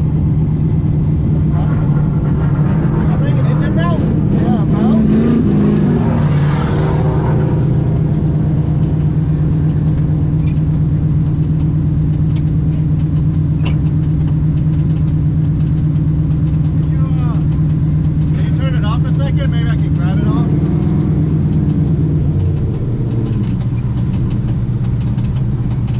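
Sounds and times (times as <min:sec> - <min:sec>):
car engine humming: 0:00.0 - 0:25.9.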